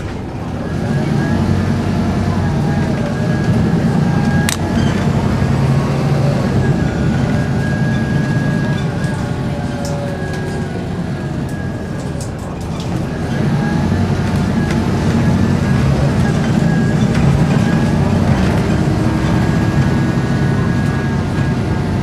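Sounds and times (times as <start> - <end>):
bus diesel engine under load: 0.0 - 22.0
engine groaning: 0.0 - 22.0.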